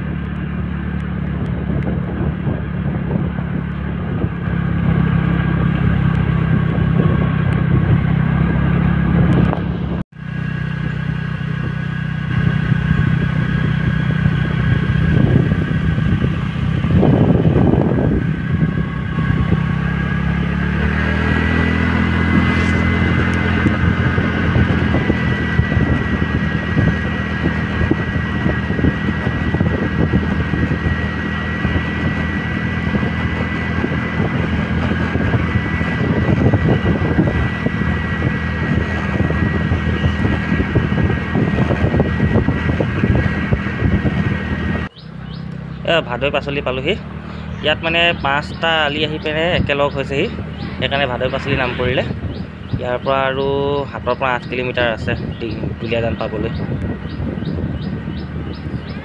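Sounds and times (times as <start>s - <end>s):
motor scooter engine running: 0.0s - 59.0s
rushing wind noise: 0.0s - 59.0s.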